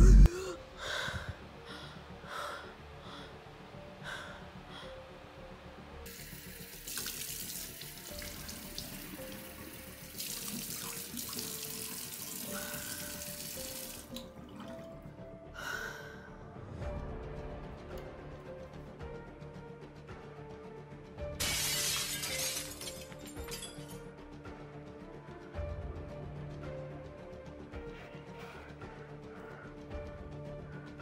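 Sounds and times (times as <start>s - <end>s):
quiet background music: 0.0s - 31.0s.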